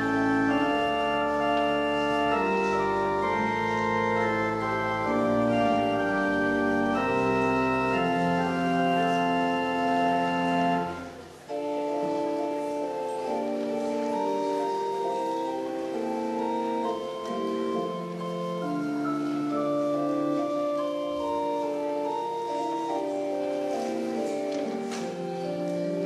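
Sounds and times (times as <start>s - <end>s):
church organ chords: 0.0s - 26.0s
organ pedal bass notes: 0.0s - 26.0s.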